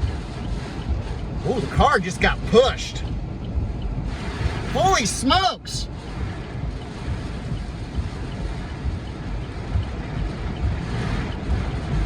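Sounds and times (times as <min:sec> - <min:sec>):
strong wind gusting: 0:00.0 - 0:12.0
wind buffeting microphone: 0:00.0 - 0:12.0.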